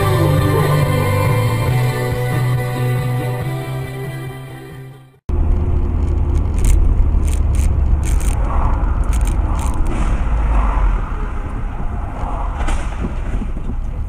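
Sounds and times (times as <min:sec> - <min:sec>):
engine and road noise rumble: 0:00.0 - 0:14.0.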